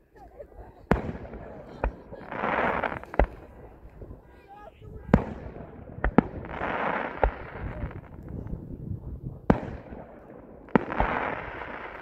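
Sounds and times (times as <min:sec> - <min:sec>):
firework stars crackling: 0:00.8 - 0:12.0.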